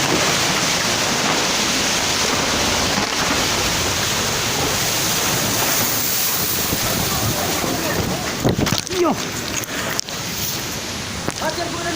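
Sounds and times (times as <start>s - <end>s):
floodwater rushing: 0.0s - 11.9s.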